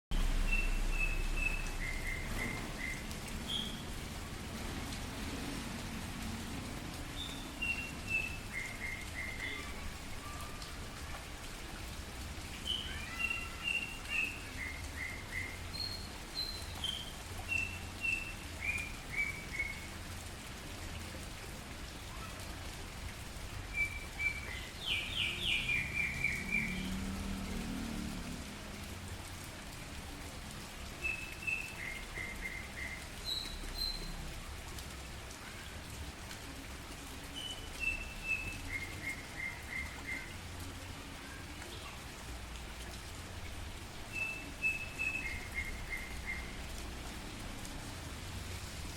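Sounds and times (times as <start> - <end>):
steady rain falling: 0.1 - 48.9.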